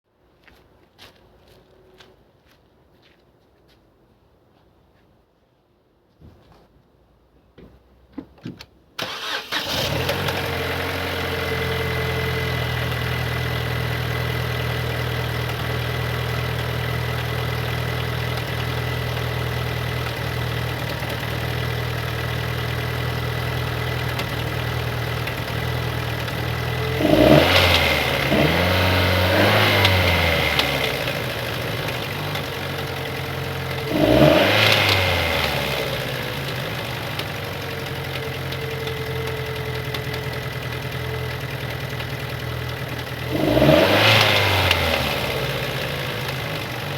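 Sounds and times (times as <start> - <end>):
car engine revving: 9.0 - 46.8
car engine starting and idling: 9.0 - 46.9.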